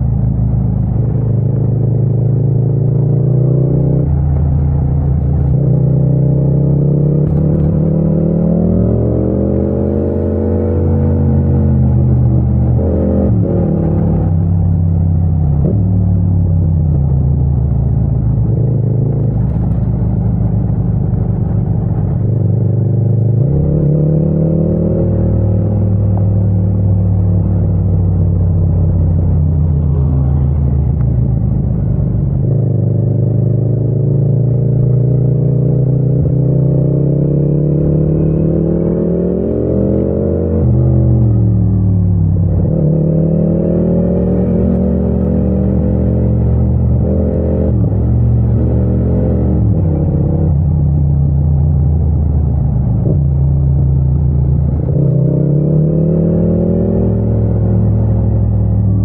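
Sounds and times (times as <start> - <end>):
motorcycle engine revving: 0.8 - 59.0.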